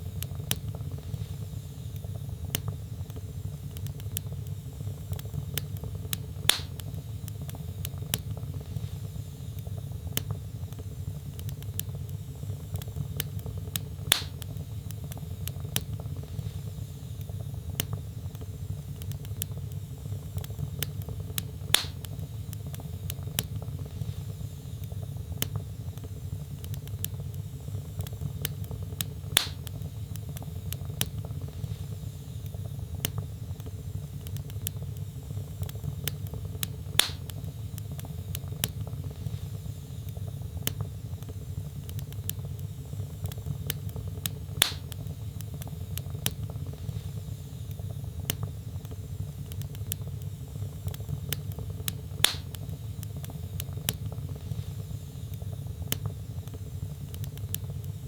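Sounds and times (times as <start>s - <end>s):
fire crackling in a fireplace: 0.0s - 58.0s
sharp pops from burning logs: 0.0s - 58.0s.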